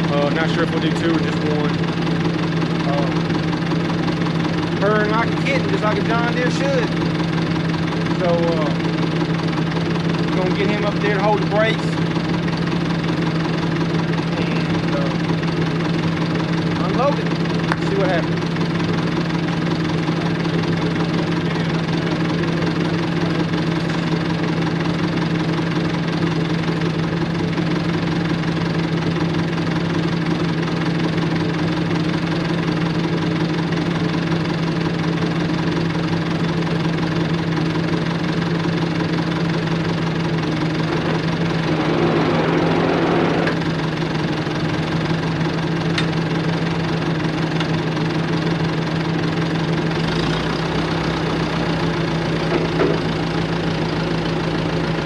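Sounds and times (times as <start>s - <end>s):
bulldozer diesel engine idling: 0.0s - 55.0s.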